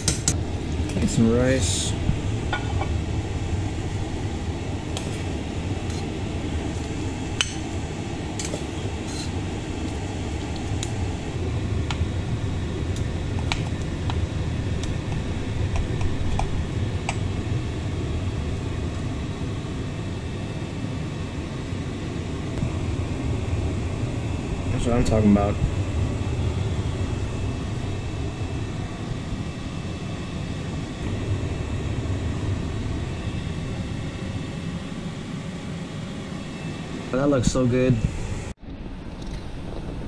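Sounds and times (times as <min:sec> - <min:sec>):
steady fan hum: 0:00.0 - 0:40.0.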